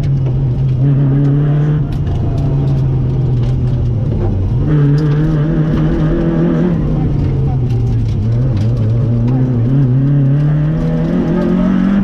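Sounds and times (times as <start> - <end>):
rally car engine: 0.0 - 12.0.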